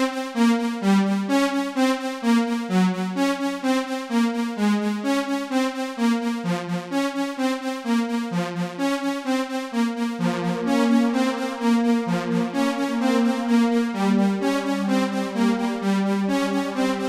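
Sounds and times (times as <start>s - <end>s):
arpeggiated synthesizer pattern: 0.0s - 17.0s.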